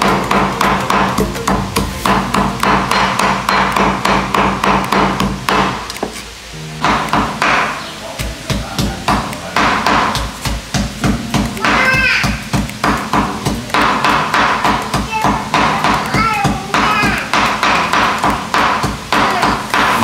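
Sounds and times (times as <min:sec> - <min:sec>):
cleaver chopping on wooden board: 0:00.0 - 0:06.2, 0:06.8 - 0:20.0.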